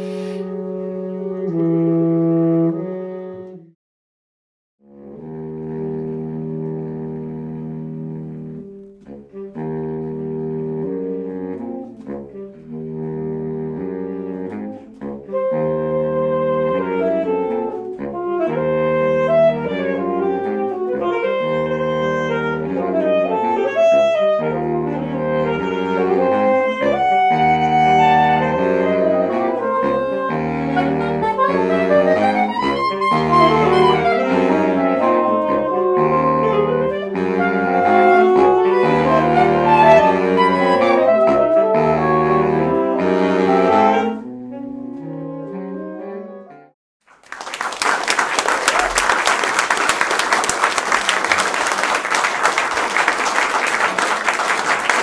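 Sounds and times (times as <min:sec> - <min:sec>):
saxophone quartet playing: 0:00.0 - 0:03.7, 0:04.9 - 0:46.8, 0:48.7 - 0:55.0.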